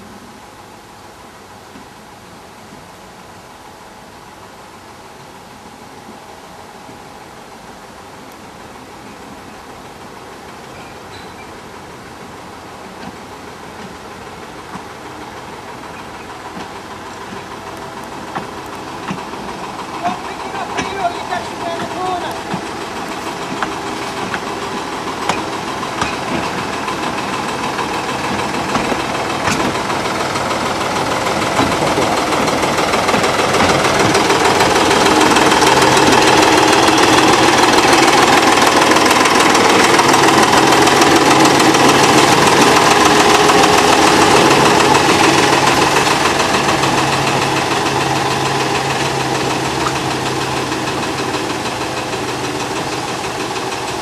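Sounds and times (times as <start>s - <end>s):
diesel locomotive passing: 0.0s - 54.0s.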